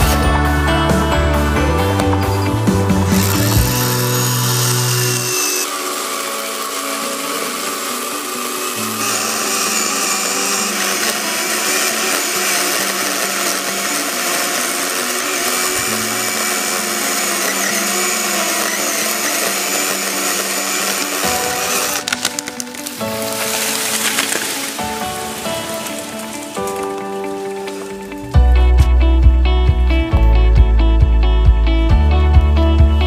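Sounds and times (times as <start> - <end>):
electric chainsaw cutting wood: 0.0 - 28.4
background music with low notes: 0.0 - 33.0.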